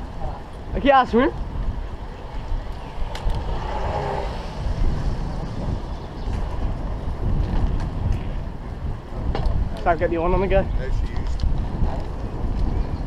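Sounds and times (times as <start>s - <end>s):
bike clicks and rattles: 0.0s - 3.7s, 4.8s - 13.0s
wind rumbling on microphone: 0.0s - 13.0s.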